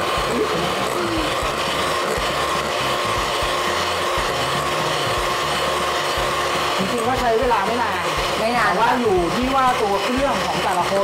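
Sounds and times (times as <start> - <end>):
electric hand mixer whipping: 0.0 - 11.0.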